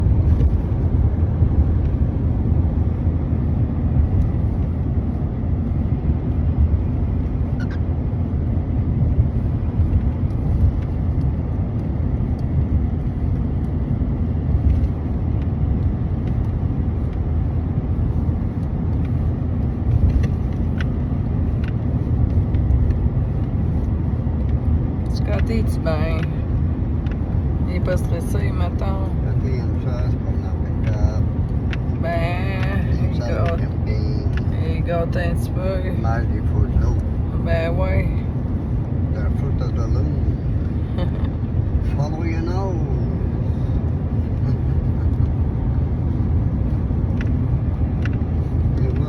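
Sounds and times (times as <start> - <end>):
car cabin road rumble: 0.0 - 49.0.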